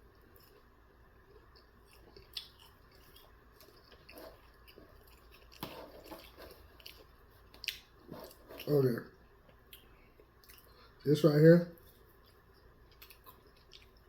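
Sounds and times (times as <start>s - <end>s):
person chewing food: 0.0s - 11.0s, 11.8s - 14.0s.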